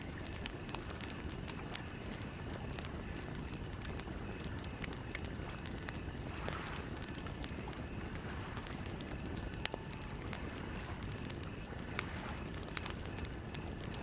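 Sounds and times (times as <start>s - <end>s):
burning wood popping: 0.0s - 14.0s
campfire crackling: 0.0s - 14.0s.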